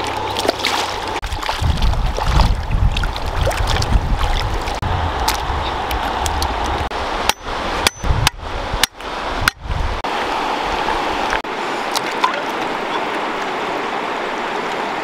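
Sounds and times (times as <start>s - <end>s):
river flowing over stones: 0.0s - 15.0s.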